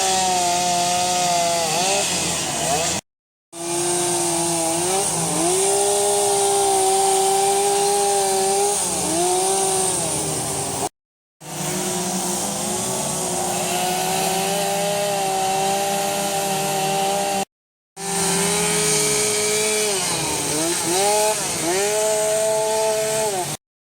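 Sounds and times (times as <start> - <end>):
chainsaw cutting wood: 0.0 - 23.6.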